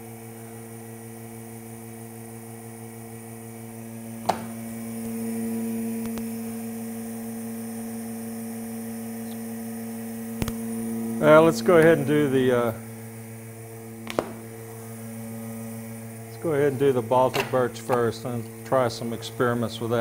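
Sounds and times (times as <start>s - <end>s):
electrical hum with low buzz: 0.0s - 20.0s.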